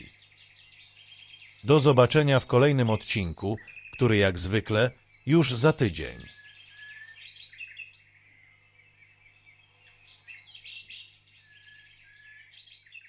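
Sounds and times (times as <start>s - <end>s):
small birds chirping and trilling: 0.0s - 13.0s.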